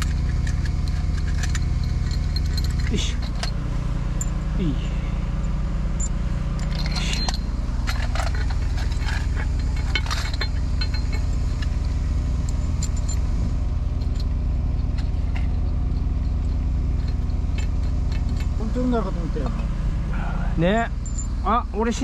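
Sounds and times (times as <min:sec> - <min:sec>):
metal parts clinking: 0:00.0 - 0:19.7, 0:20.9 - 0:21.4
engine humming: 0:00.0 - 0:22.0.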